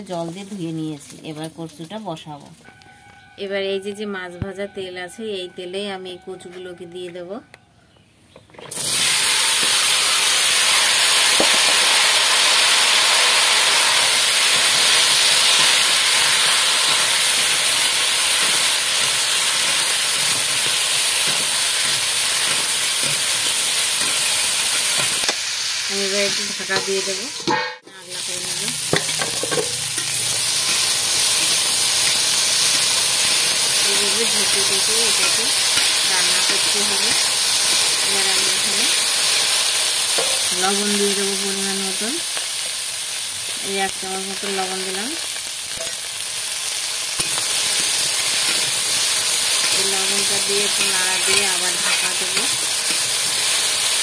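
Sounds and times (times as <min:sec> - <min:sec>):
food sizzling in hot oil: 0:00.0 - 0:02.2, 0:08.7 - 0:54.0.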